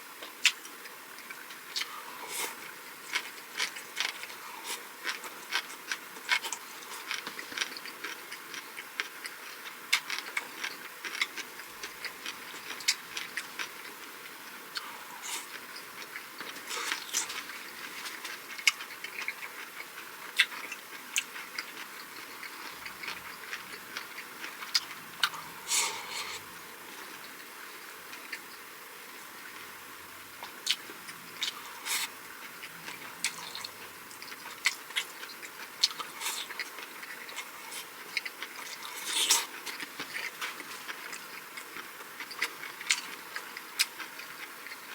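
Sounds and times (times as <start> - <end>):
person chewing food: 0.2 - 27.5, 30.4 - 44.9.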